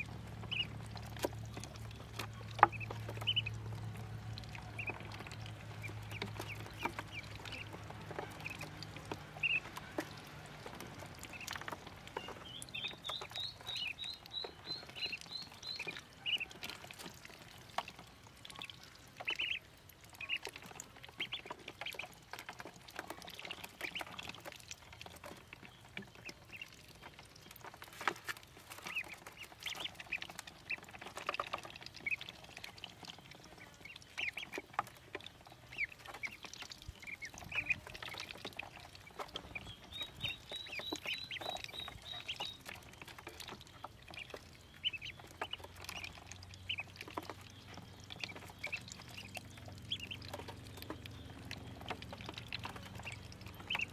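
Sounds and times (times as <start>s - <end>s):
ducklings peeping: 0.0s - 53.9s.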